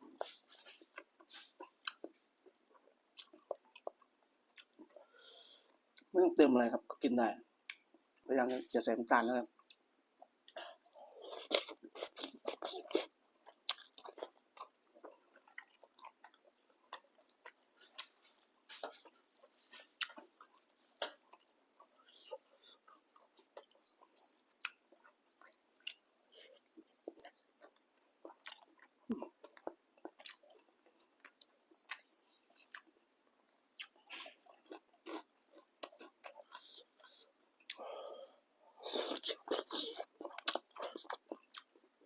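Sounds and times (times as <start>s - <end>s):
person chewing food: 0.0s - 6.1s, 9.6s - 42.0s.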